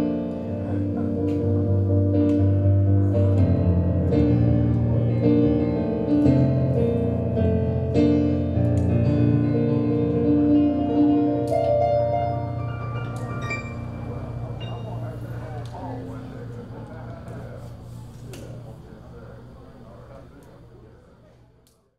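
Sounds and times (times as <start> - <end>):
slow keyboard chords: 0.0 - 20.4.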